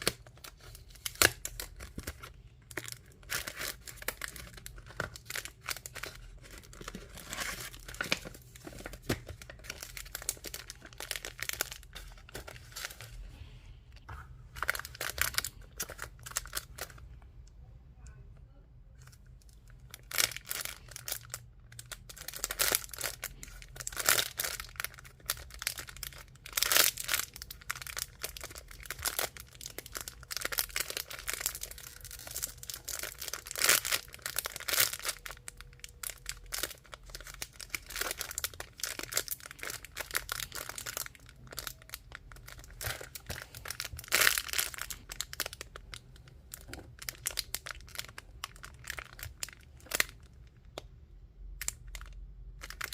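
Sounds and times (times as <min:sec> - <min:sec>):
packaging crinkling and tearing: 0:00.0 - 0:13.2, 0:14.4 - 0:17.0, 0:19.4 - 0:50.8, 0:51.5 - 0:52.9.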